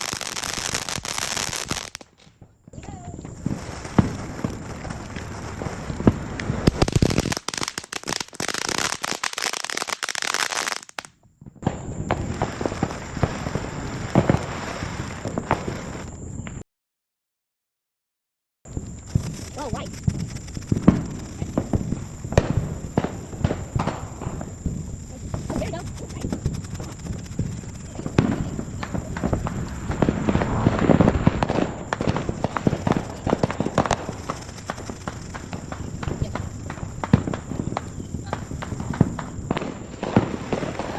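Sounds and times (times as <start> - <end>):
fireworks crackling and popping: 0.0 - 16.6, 18.7 - 40.9.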